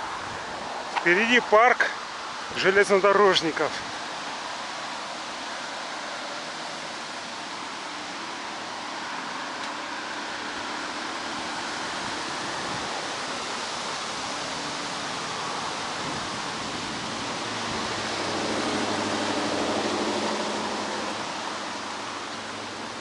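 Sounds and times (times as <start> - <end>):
low engine hum: 3.8 - 23.0.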